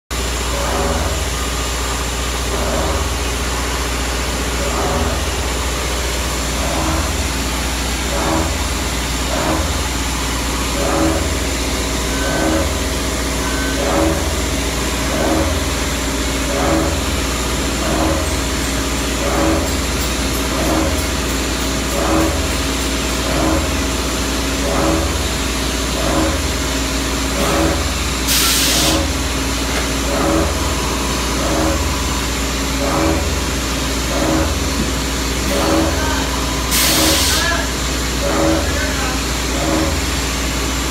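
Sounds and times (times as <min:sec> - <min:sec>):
industrial machinery humming: 0:00.1 - 0:40.9
repeating machine pulse: 0:00.1 - 0:40.9.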